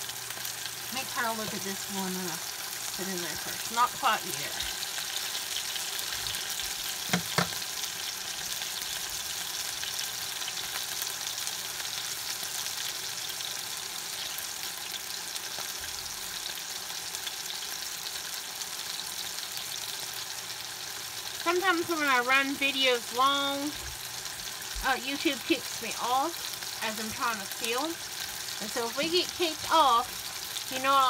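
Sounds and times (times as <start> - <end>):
patties sizzling in skillet: 0.0 - 31.0.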